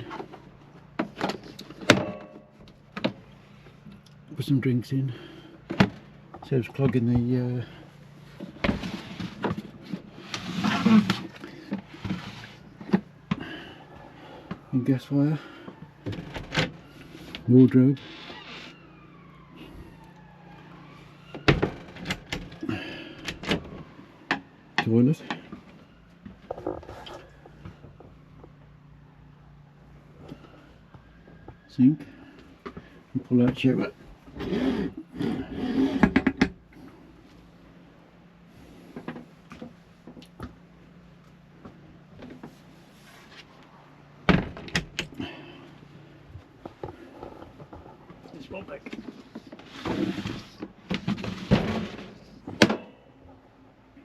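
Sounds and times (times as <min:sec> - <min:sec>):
faint siren: 0:00.0 - 0:54.0.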